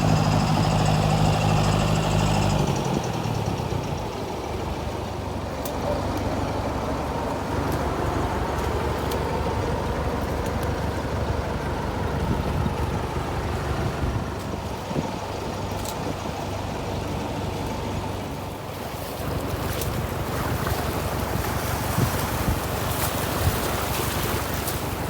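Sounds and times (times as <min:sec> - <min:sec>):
engine running with low hum: 0:00.0 - 0:25.0.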